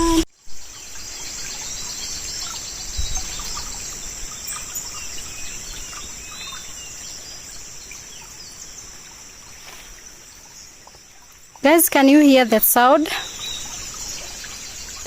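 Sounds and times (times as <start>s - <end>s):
crickets and insects chirring: 0.0s - 15.0s.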